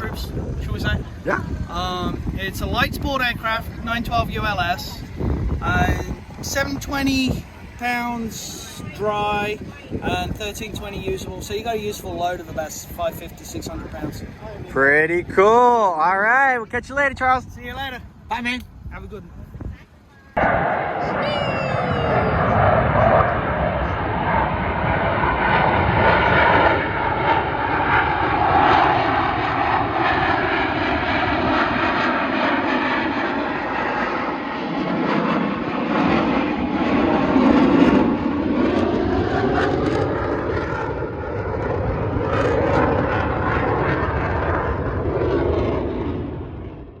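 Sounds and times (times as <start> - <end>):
propeller airplane engine drone: 0.0 - 14.6, 19.9 - 47.0.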